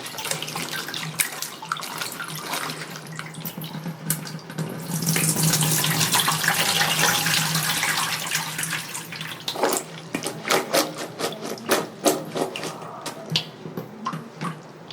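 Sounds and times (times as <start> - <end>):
tap water pouring and splashing: 0.0 - 14.9.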